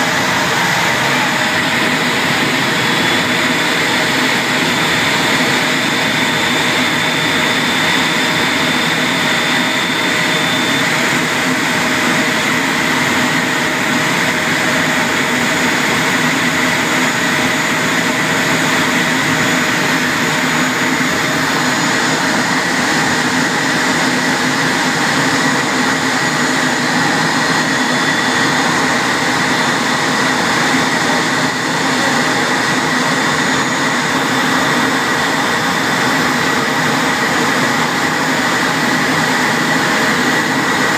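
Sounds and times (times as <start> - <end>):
jet engines whining at taxi: 0.0 - 40.9.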